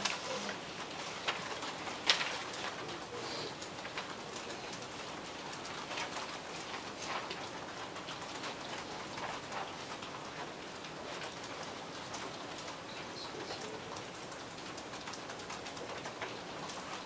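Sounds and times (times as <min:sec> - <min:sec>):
room hum: 0:00.0 - 0:17.0
computer keyboards clicking: 0:00.8 - 0:17.0.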